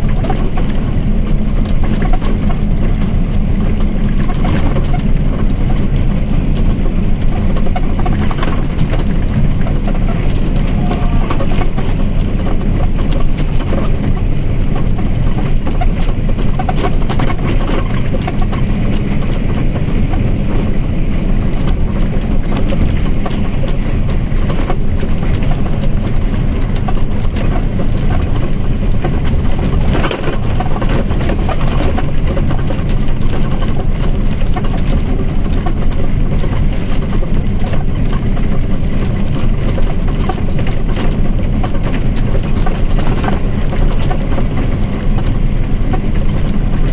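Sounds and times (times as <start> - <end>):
bus engine rumbling: 0.0 - 46.9.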